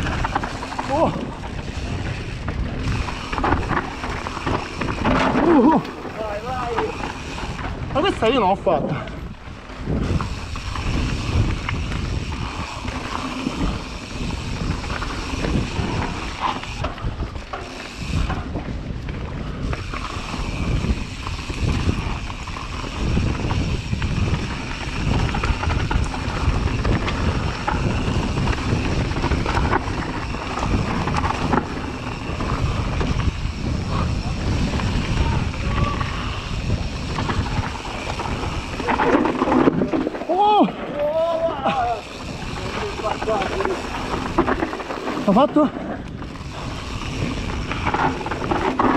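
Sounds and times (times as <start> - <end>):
bike rattling and knocking: 0.0 - 48.9
tyres rolling over dirt and leaves: 0.0 - 48.9
wind rushing over microphone: 0.0 - 48.9.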